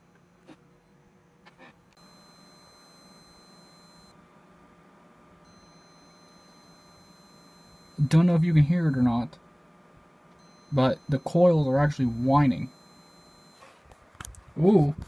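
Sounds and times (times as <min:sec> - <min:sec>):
faint high-pitched coil whine: 0:00.0 - 0:15.0.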